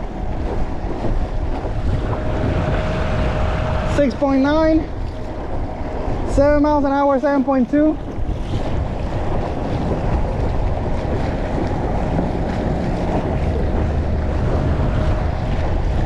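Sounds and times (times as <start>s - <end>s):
water rushing against boat hull: 0.0s - 16.0s
wind buffeting microphone: 0.0s - 16.0s.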